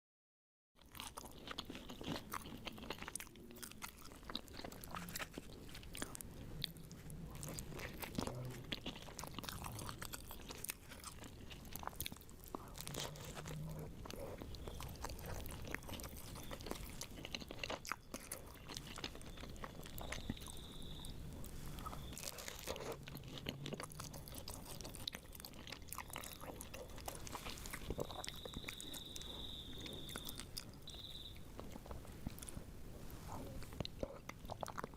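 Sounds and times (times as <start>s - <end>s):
person chewing crunchy food: 0.8s - 34.9s.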